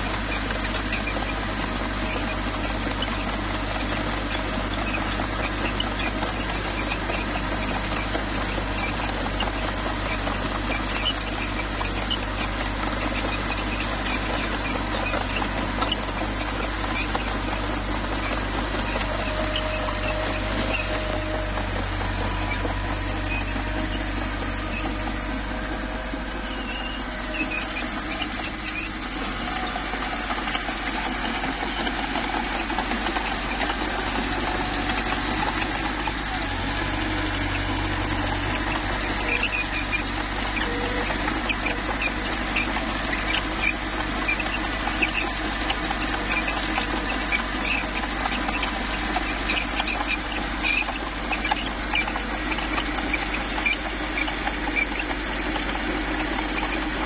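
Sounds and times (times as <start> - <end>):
steel tracks squeaking and clinking: 0.0 - 25.2, 26.4 - 57.0
bulldozer diesel engine running: 0.0 - 57.0.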